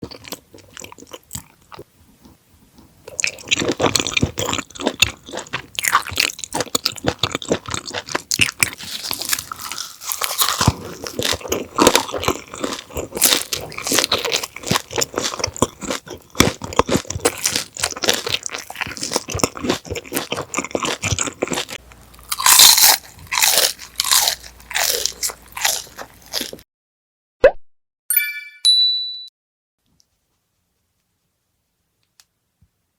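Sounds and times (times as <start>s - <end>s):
crisp chewing and crunching: 0.0s - 26.6s.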